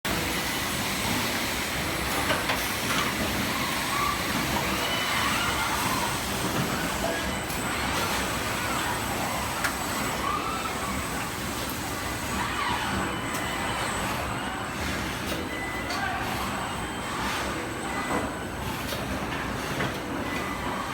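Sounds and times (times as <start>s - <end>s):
factory machinery noise: 0.1s - 20.9s.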